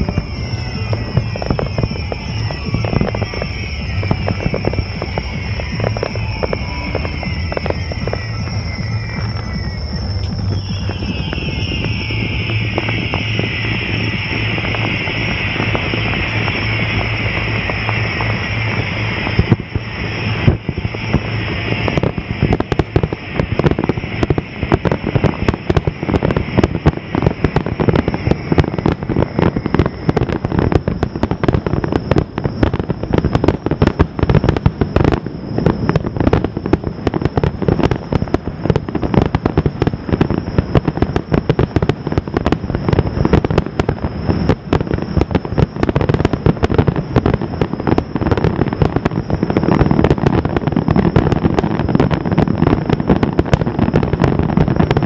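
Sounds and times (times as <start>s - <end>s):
fireworks booming and cracking: 0.0s - 55.0s.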